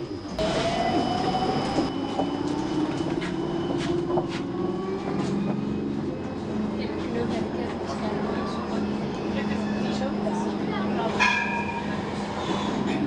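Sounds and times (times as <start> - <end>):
tram running rumble: 0.0 - 13.0.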